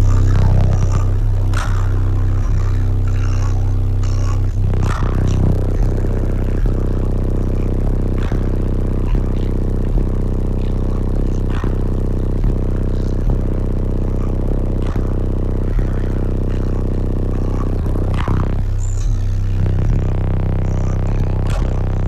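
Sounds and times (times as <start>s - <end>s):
bass-heavy music with beat: 0.0s - 22.0s.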